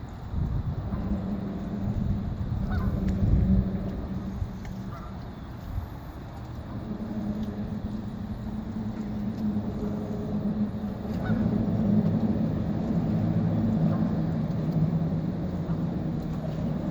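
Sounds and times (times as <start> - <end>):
engine humming: 0.0 - 16.9.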